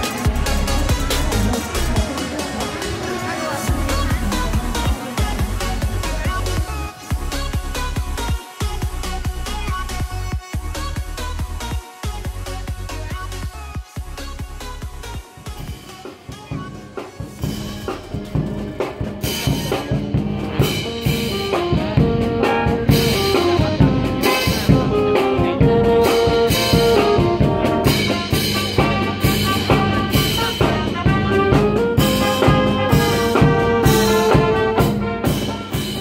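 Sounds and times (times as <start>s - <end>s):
brass band playing: 0.0s - 10.3s, 15.7s - 36.0s
steady drum beat: 0.0s - 36.0s.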